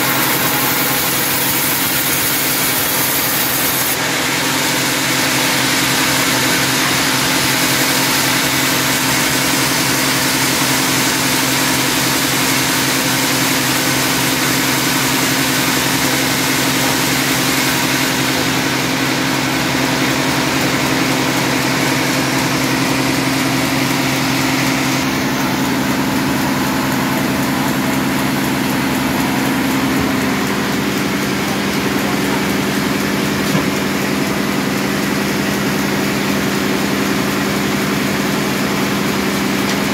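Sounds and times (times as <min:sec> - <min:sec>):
band sawmill humming: 0:00.0 - 0:39.9.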